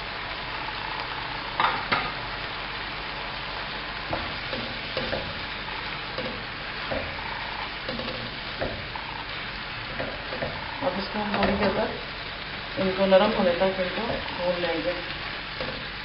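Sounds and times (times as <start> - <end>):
meat sizzling in a wok: 0.0 - 16.0.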